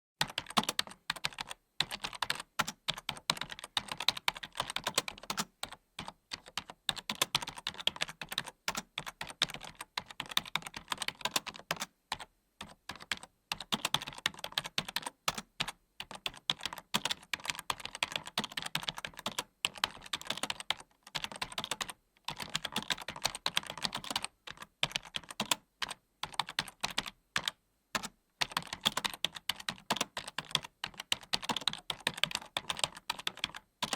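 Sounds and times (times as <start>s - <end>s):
computer keyboard typing: 0.2s - 33.9s.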